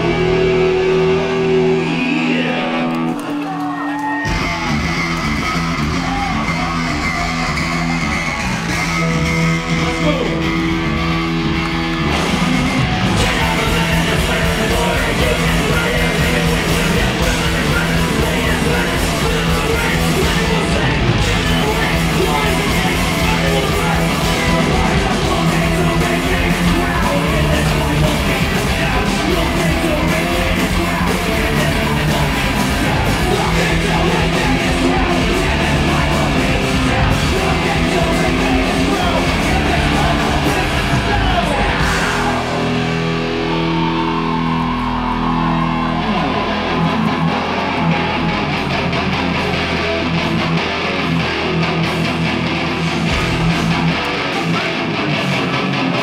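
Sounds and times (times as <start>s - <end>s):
drums: 0.0s - 56.0s
electric guitar: 0.0s - 56.0s
heavy punk-metal rock band: 0.0s - 56.0s.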